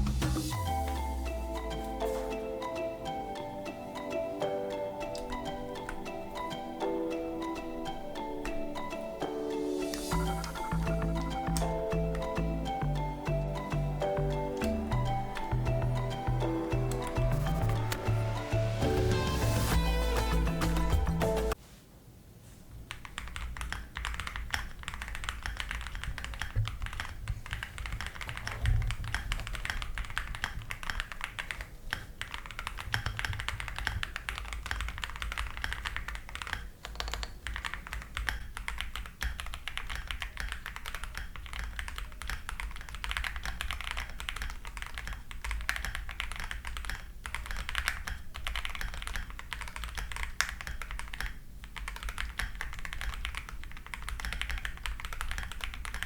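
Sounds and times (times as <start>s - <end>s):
fast keyboard typing: 0.4s - 21.6s, 22.9s - 56.0s.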